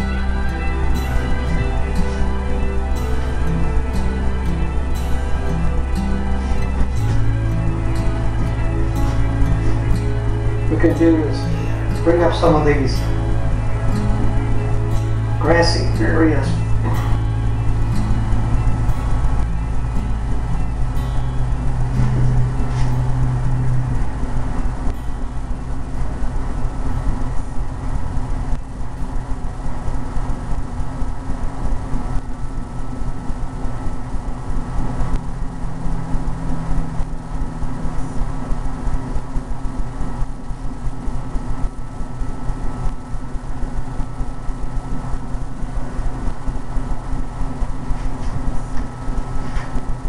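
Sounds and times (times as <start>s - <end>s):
machine humming and rumbling: 0.0s - 50.0s.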